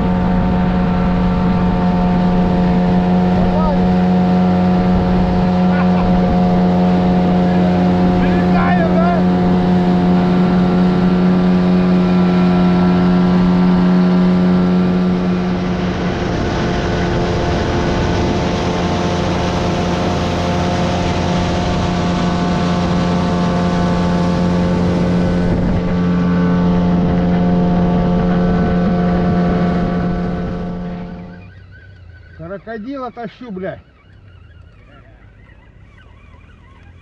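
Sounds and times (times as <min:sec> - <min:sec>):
water rushing past hull: 0:00.0 - 0:33.9
outboard motor running: 0:00.0 - 0:37.0.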